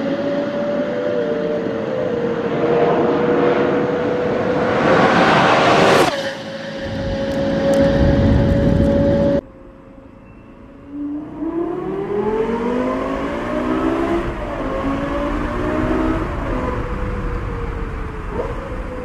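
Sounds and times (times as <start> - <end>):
sports car passing at high revs: 0.0 - 9.4, 10.8 - 19.0.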